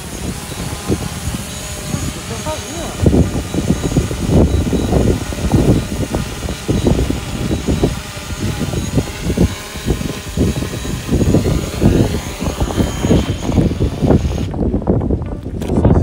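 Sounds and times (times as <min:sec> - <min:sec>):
faint high whine: 0:00.0 - 0:14.6
wind buffeting microphone: 0:00.0 - 0:16.0.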